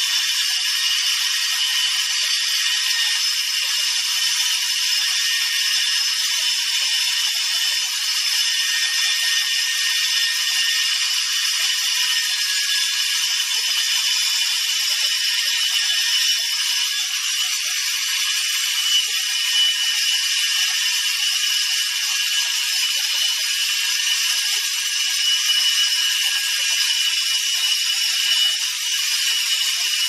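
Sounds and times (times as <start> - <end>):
grinder grinding metal: 0.0 - 30.0.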